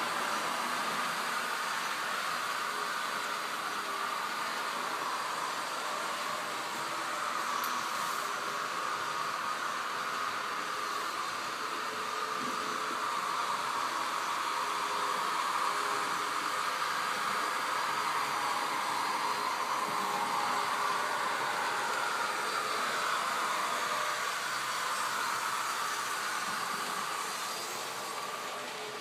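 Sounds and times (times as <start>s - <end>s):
hiss: 0.0s - 29.0s
model train motors whirring: 0.0s - 29.0s.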